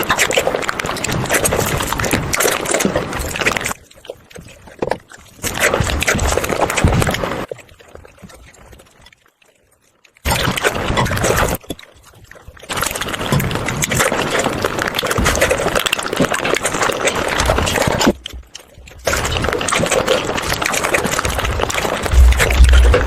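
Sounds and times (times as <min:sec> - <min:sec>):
chewing and crunching food: 0:00.0 - 0:23.0.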